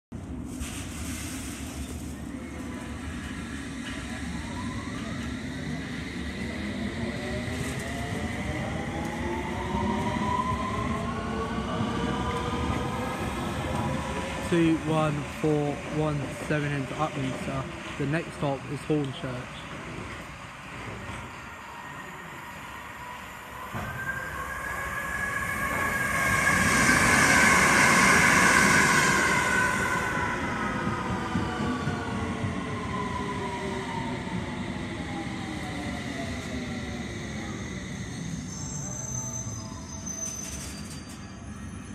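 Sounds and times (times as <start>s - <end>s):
low train rumble: 0.1s - 41.9s.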